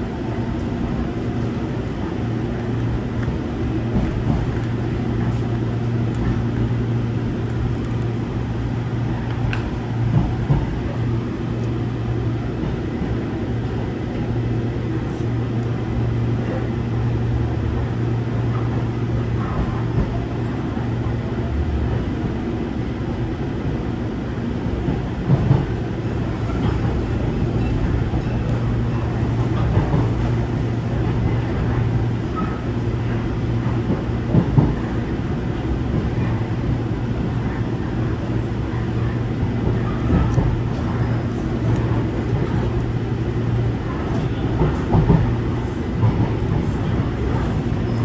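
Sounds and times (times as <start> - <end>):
train low hum: 0.0 - 48.0
wheels rumbling on rail: 0.0 - 48.0.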